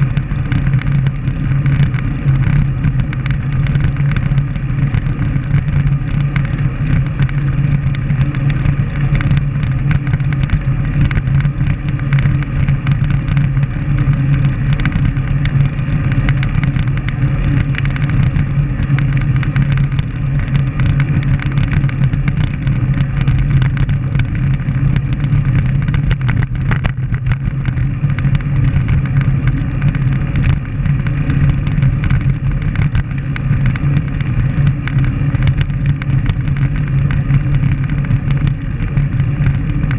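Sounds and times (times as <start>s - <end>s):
tyre and road rumble: 0.0s - 39.9s
wind rush on microphone: 0.0s - 39.9s.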